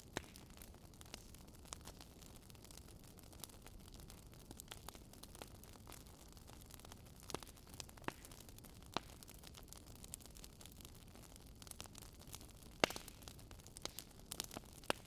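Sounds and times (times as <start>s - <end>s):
wood campfire crackling: 0.0s - 15.0s.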